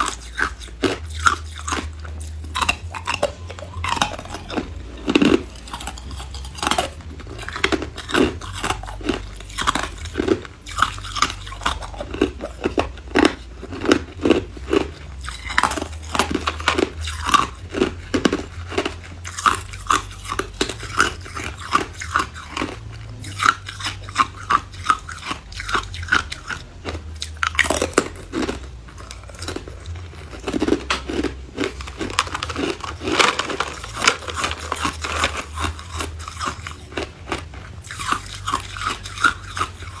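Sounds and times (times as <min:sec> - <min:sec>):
ice cubes crunching: 0:00.0 - 0:40.0.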